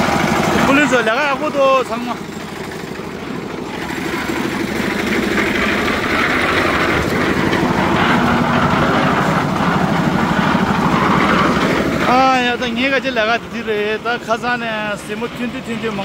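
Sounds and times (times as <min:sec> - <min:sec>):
concrete mixer engine running: 0:00.0 - 0:16.0.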